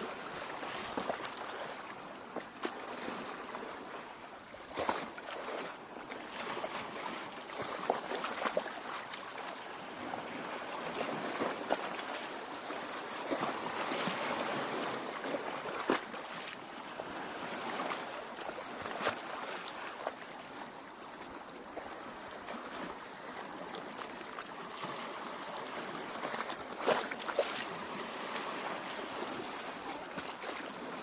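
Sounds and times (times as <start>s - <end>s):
lake water lapping at shore: 0.0s - 31.0s.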